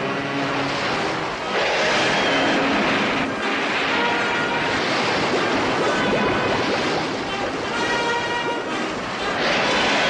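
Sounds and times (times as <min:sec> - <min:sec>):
crashing splashing water and wreckage: 0:00.5 - 0:10.0.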